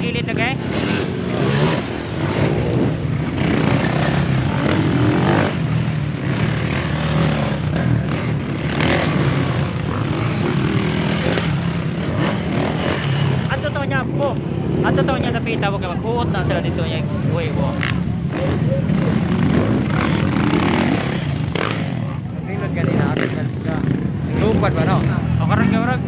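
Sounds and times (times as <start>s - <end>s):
continuous rushing noise: 0.0s - 26.0s.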